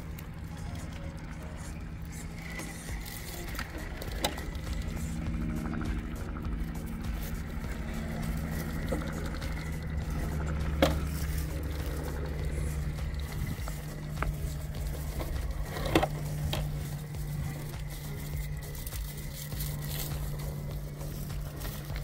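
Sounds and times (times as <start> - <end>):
rc truck motors whirring: 0.0 - 22.0.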